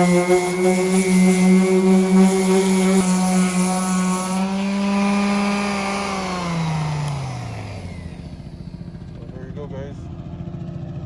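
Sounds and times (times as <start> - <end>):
orbital sander running: 0.0 - 10.5.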